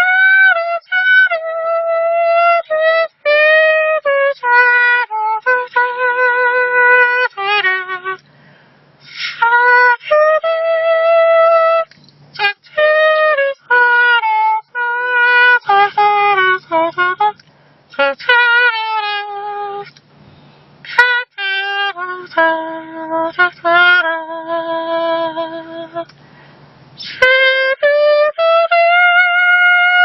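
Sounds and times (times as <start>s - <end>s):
hand whistling melody: 0.0s - 8.3s, 9.0s - 20.2s, 20.8s - 26.2s, 26.9s - 30.0s.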